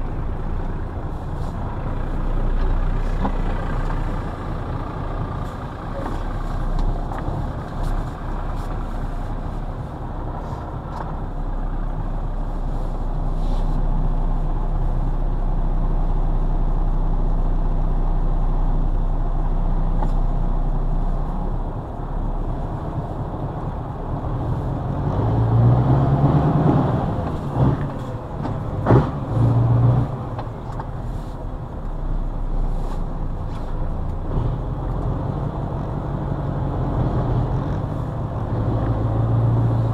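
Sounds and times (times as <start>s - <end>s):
truck diesel engine from cab: 0.0s - 39.9s.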